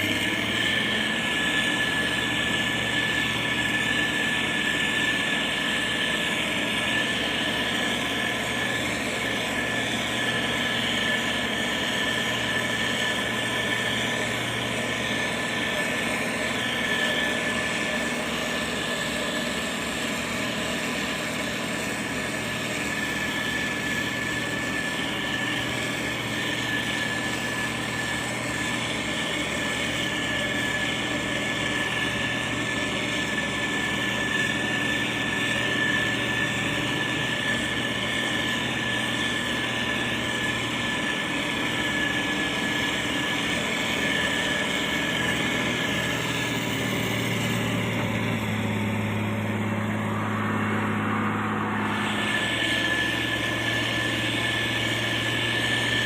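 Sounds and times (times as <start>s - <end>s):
diesel engine running: 0.0s - 56.0s
high-pitched whine: 0.0s - 56.0s.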